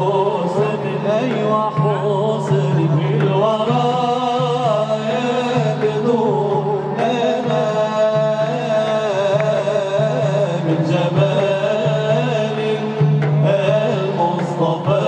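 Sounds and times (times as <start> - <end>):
men singing devotional song: 0.0 - 15.0.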